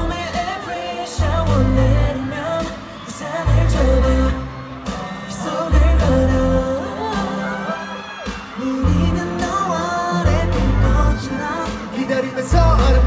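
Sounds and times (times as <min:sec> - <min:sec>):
amplified backing track with bass: 0:00.0 - 0:00.6, 0:01.2 - 0:07.4, 0:08.8 - 0:13.0
person singing pop song live: 0:00.0 - 0:13.0.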